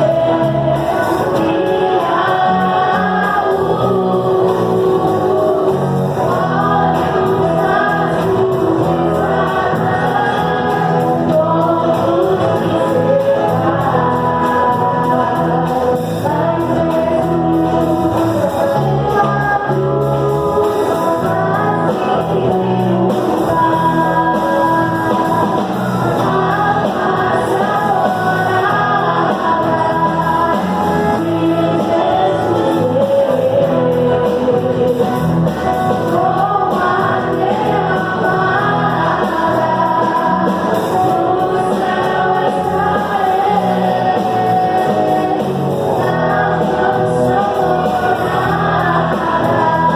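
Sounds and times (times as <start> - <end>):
band accompaniment: 0.0 - 49.9
gospel singing: 0.0 - 49.9.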